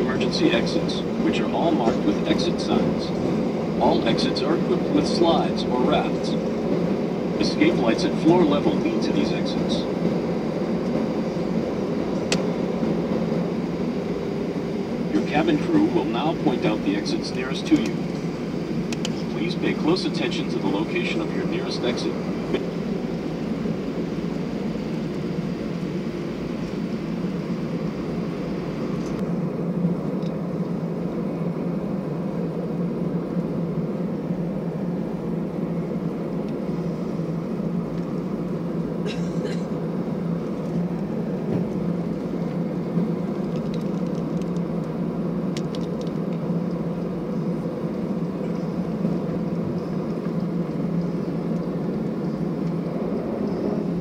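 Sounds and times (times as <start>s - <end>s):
aircraft cabin engine hum: 0.0s - 54.0s.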